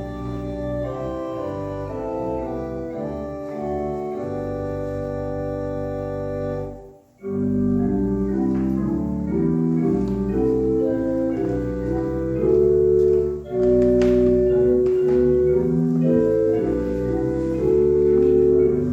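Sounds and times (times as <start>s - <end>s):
organ music: 0.0s - 18.9s.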